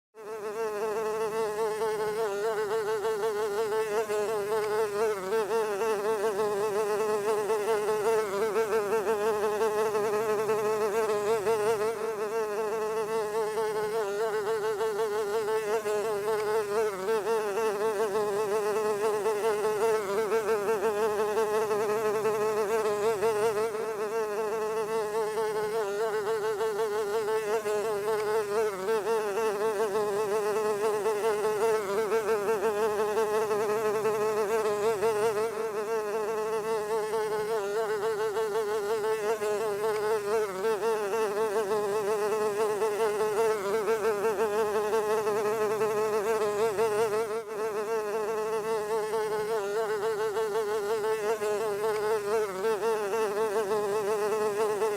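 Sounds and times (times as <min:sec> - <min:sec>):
housefly buzzing: 0:00.2 - 0:54.9.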